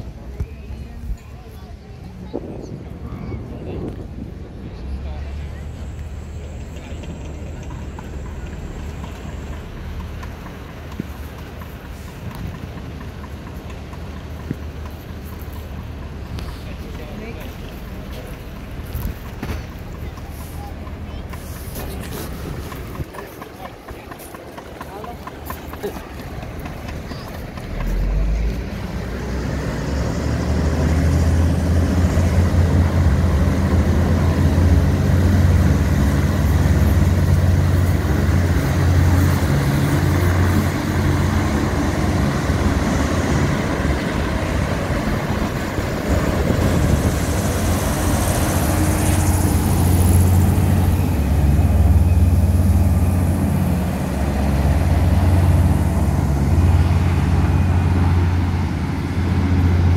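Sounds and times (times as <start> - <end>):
hovercraft engine drone: 0.0 - 59.9.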